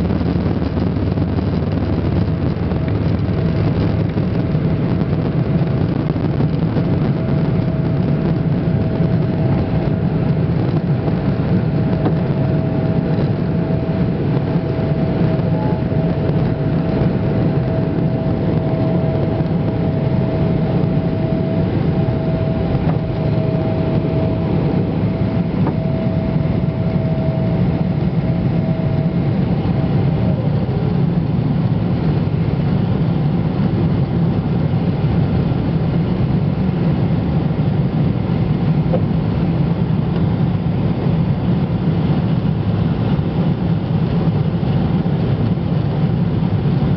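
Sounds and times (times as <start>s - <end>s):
jet engines during takeoff: 0.0s - 46.9s.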